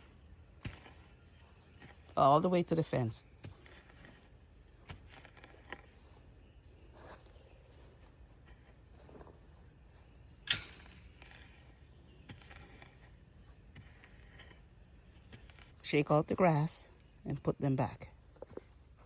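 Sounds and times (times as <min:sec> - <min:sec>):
rustling of weeds and soil: 0:00.0 - 0:19.0.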